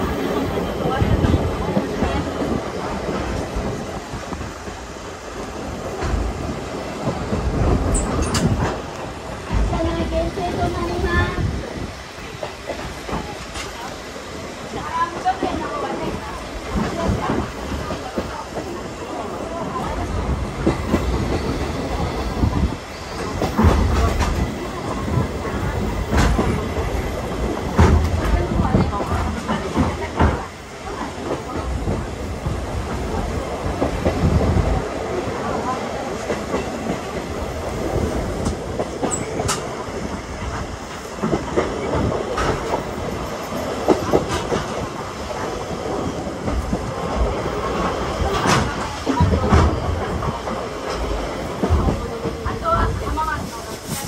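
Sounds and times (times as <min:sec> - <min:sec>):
train coach rumble: 0:00.0 - 0:54.0.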